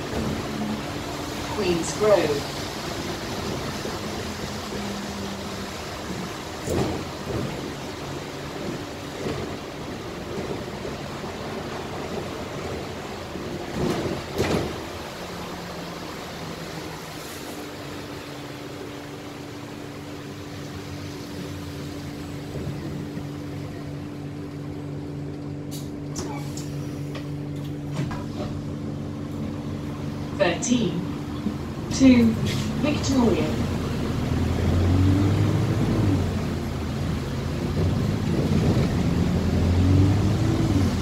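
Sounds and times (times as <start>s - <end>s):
bus running hum: 0.0s - 41.0s
road rumble: 0.0s - 41.0s.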